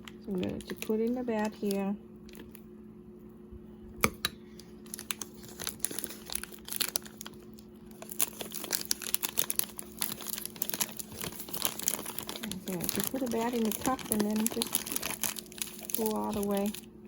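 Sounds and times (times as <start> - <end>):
plastic bag crinkling: 0.0 - 2.6, 4.8 - 17.0
steady low hum: 0.0 - 17.0.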